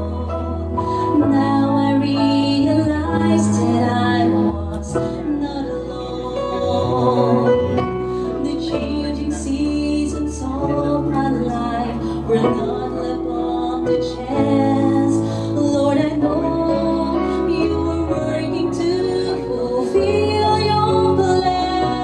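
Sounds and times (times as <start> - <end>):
slow song with instruments: 0.0 - 22.0
sustained bass notes: 0.0 - 22.0.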